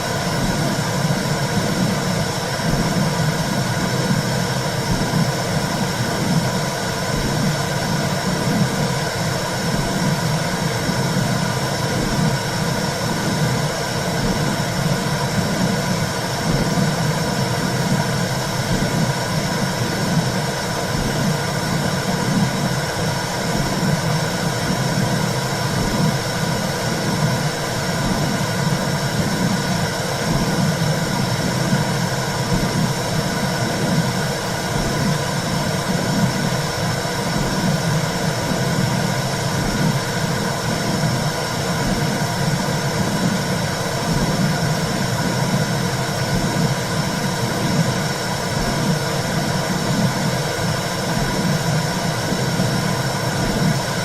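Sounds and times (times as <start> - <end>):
low rhythmic pulsing: 0.0 - 54.0.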